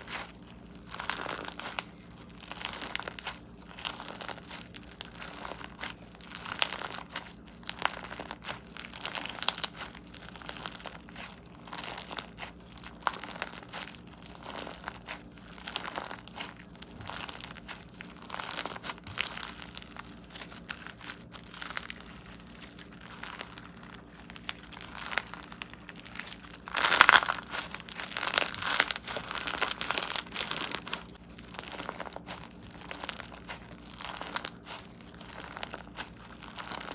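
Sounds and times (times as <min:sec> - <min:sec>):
crunchy slime squeezed by hand: 0:00.0 - 0:36.9.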